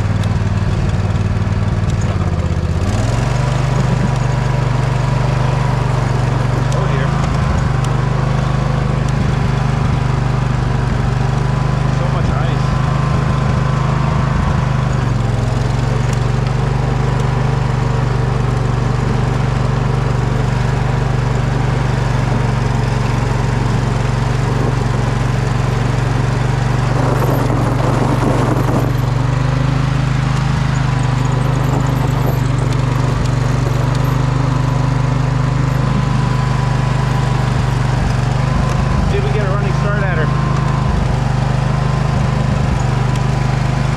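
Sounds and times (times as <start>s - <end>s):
riding mower engine under load: 0.0s - 43.9s.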